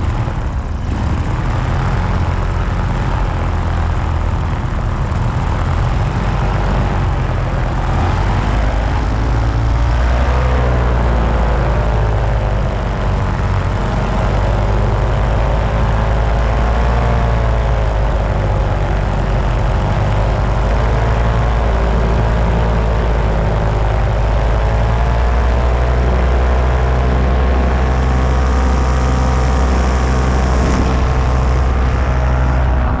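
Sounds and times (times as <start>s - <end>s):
paramotor engine and propeller droning: 0.0s - 33.0s.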